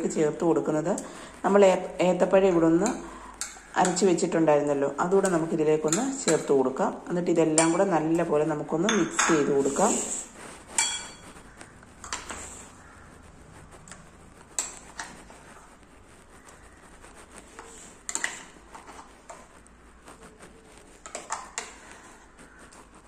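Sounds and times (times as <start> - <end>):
spoon stirring wet food: 0.0 - 23.0.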